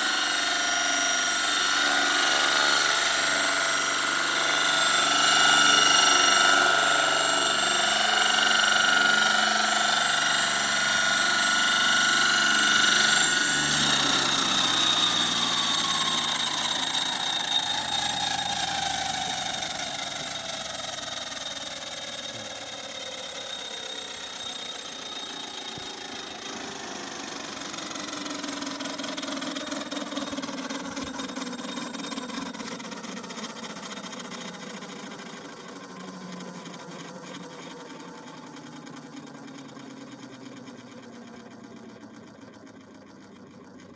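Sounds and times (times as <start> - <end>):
model helicopter rotors and whine: 0.0 - 43.9.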